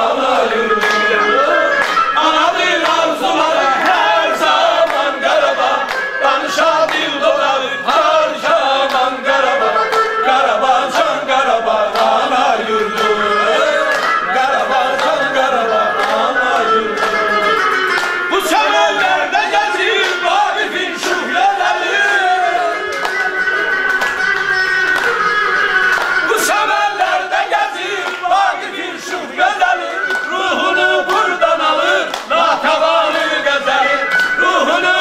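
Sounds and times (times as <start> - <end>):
group of voices singing: 0.0 - 35.0.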